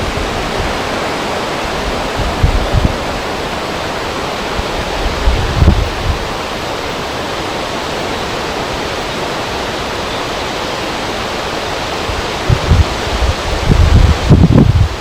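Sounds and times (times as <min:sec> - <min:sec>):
wind rushing: 0:00.0 - 0:10.0, 0:11.6 - 0:15.0
river water flowing: 0:00.0 - 0:15.0
wind gusts buffeting microphone: 0:00.0 - 0:15.0.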